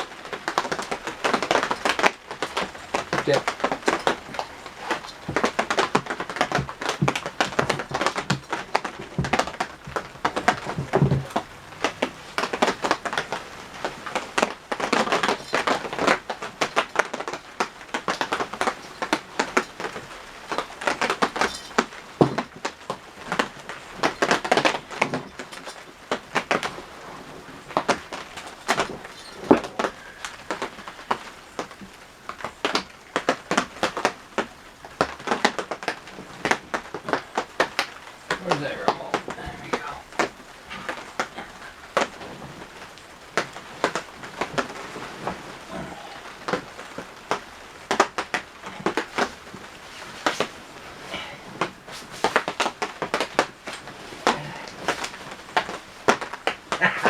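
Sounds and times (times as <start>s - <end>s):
rain tapping on roof: 0.0s - 57.0s.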